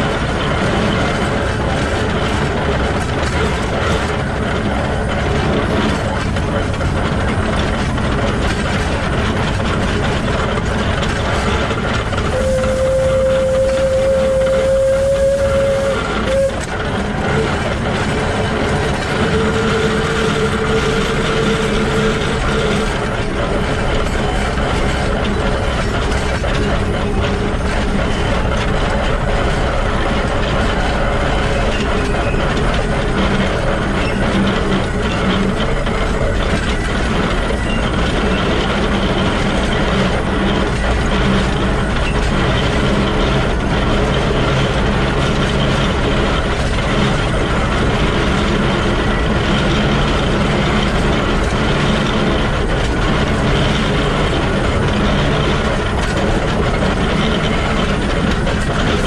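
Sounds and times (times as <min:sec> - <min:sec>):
steam locomotive gear clatter: 0:00.0 - 0:59.0.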